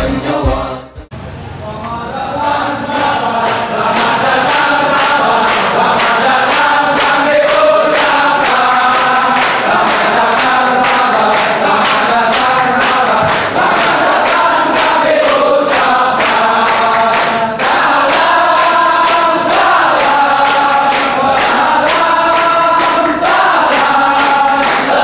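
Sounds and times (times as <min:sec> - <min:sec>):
choir singing: 0:00.0 - 0:01.0, 0:01.6 - 0:25.0
steady beat: 0:02.4 - 0:25.0.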